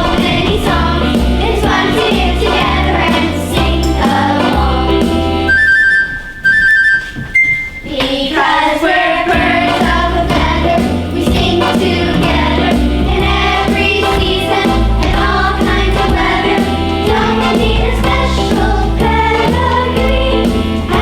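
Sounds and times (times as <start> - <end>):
chorus singing: 0.0 - 5.6, 7.8 - 21.0
instrumental accompaniment: 0.0 - 8.1, 9.3 - 21.0.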